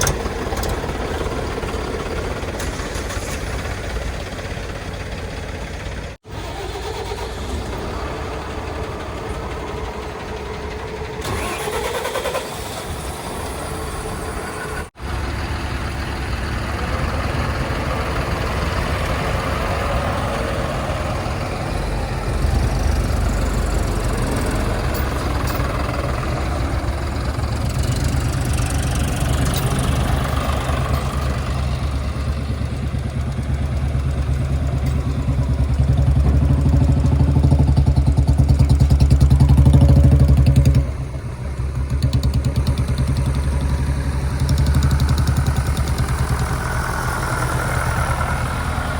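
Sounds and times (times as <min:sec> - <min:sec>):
deep engine rumble: 0:00.0 - 0:48.9
heavy diesel engines running: 0:00.0 - 0:48.9.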